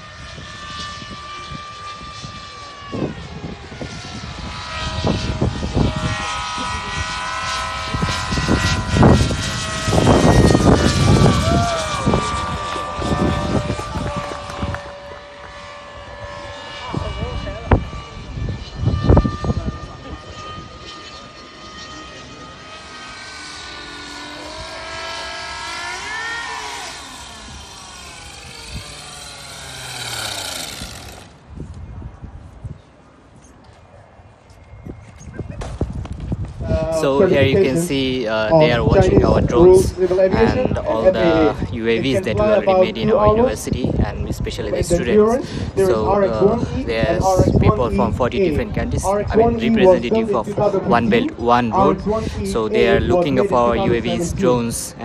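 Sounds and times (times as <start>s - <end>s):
low rumbling surges: 0.0s - 21.4s, 22.2s - 32.6s, 35.8s - 55.0s
model aircraft propeller drone: 0.0s - 55.0s.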